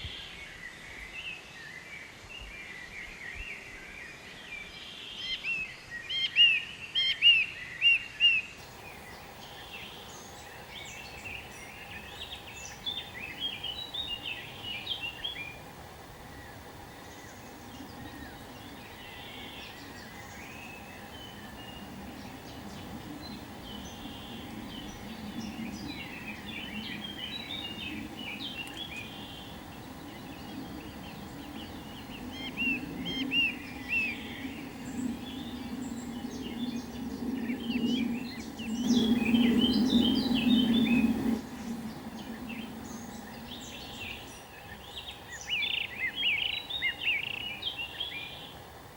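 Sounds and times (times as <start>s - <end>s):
outdoor background noise: 0.0s - 48.9s
birds calling and chirping: 4.0s - 48.8s.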